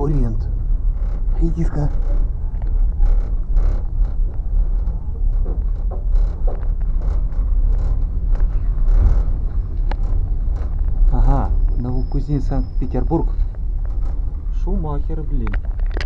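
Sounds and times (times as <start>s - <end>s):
knocks and rattles: 0.0s - 11.8s, 12.5s - 16.0s
train rumbling on track: 0.0s - 15.9s.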